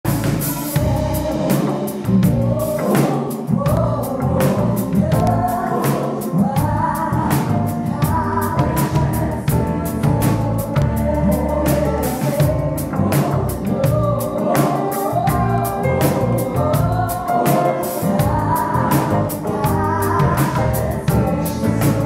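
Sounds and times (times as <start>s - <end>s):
electric bass: 0.0s - 2.8s, 3.6s - 5.7s, 6.4s - 22.0s
drum kit beat: 0.0s - 22.0s
gospel choir singing: 0.1s - 22.0s.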